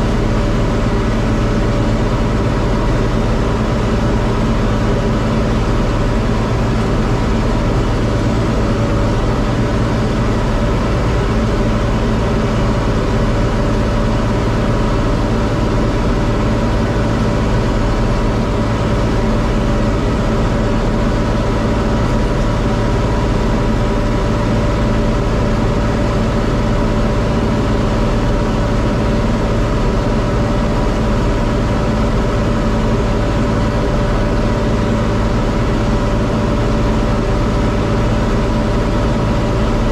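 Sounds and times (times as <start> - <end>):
round baler working hay: 0.0 - 39.9
tractor diesel engine running: 0.0 - 39.9.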